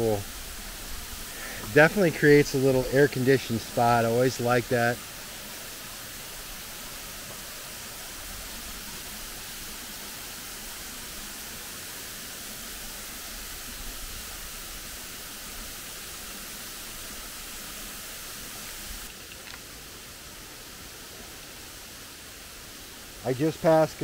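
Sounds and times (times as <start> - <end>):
waterfall hissing: 0.0 - 24.0.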